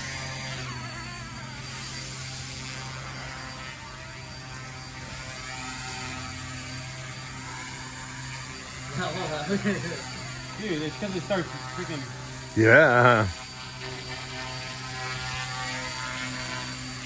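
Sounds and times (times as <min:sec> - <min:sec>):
rc helicopter motor whine: 0:00.0 - 0:17.0.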